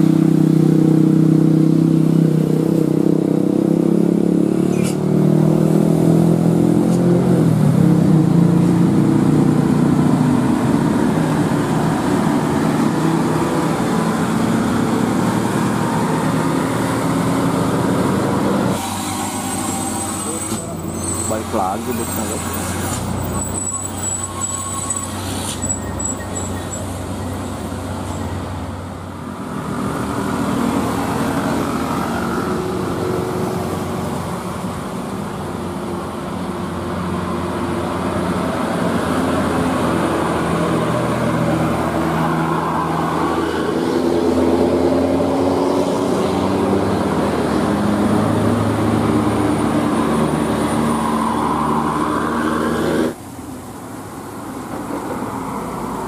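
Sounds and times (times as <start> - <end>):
bus diesel engines climbing hill: 0.0 - 56.0.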